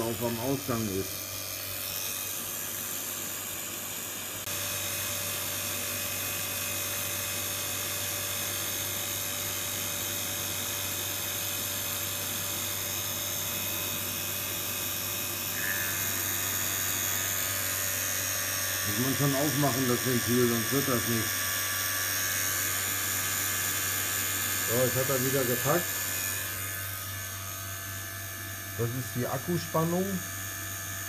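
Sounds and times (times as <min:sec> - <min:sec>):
vacuum pump whirring: 0:00.0 - 0:31.0.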